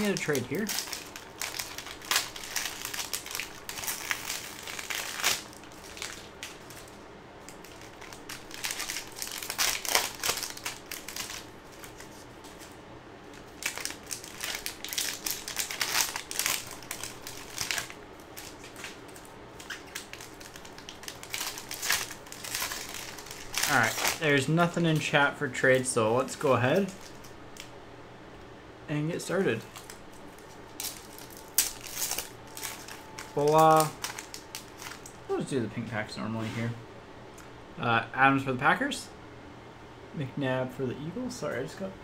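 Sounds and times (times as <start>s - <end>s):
wrappers crinkling: 0.0s - 27.7s, 29.2s - 35.9s.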